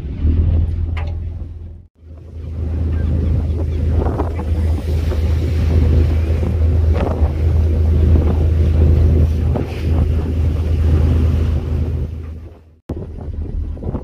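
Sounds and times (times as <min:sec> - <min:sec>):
boat engine humming: 0:00.0 - 0:14.0
wind buffeting microphone: 0:00.0 - 0:14.0.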